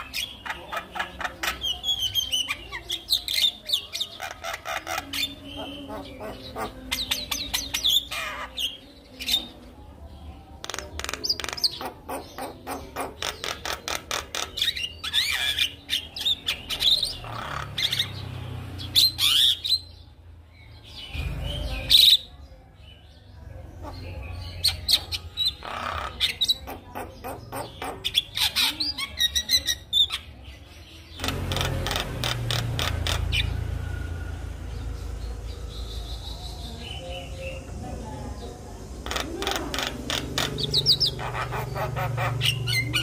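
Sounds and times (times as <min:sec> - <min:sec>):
bird singing: 0:00.0 - 0:43.0
harsh bird calls: 0:00.0 - 0:43.0.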